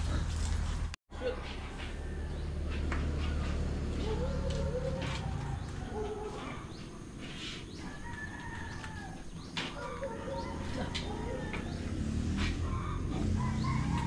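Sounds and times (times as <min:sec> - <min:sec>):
birds calling: 0:01.1 - 0:14.0.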